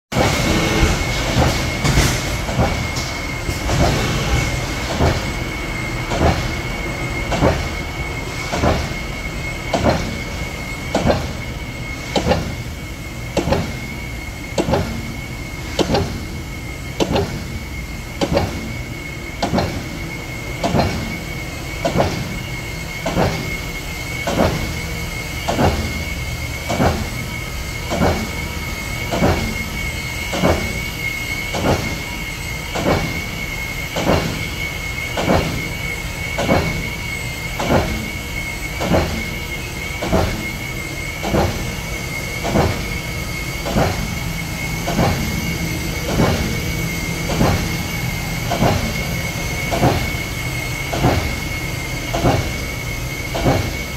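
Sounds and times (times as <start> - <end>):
high-pitched whine: 0.2 - 53.9.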